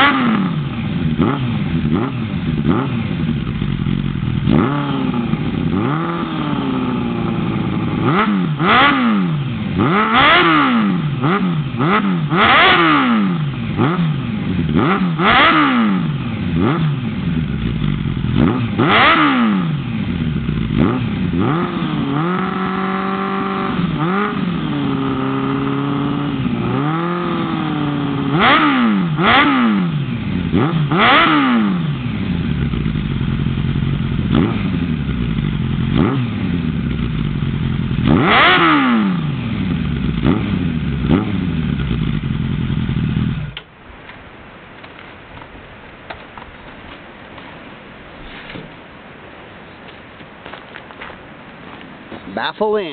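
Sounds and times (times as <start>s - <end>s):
motorcycle engine idling and revving: 0.0s - 44.2s.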